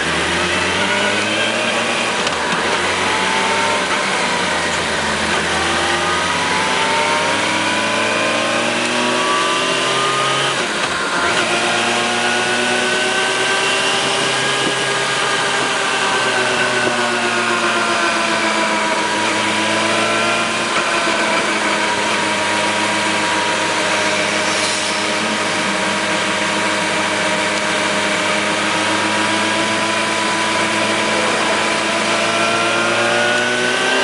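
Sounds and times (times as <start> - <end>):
motorcycle engine cruising: 0.0 - 34.0
road noise: 0.0 - 34.0.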